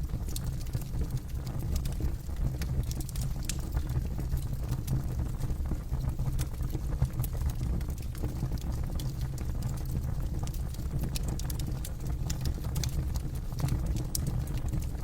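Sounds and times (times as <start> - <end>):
burning wood crackling and popping: 0.0 - 15.0
low rumble of flames: 0.0 - 15.0.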